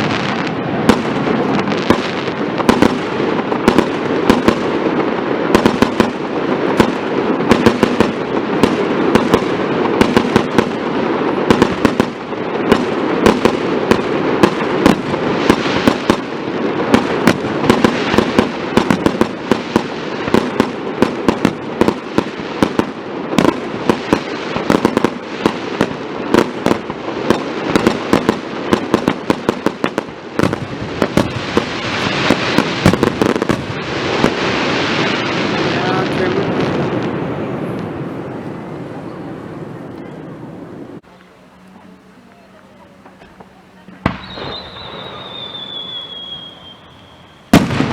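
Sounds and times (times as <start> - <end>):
fireworks cracks and pops: 0.0 - 38.0, 47.5 - 47.9
crackling hiss: 0.0 - 47.9.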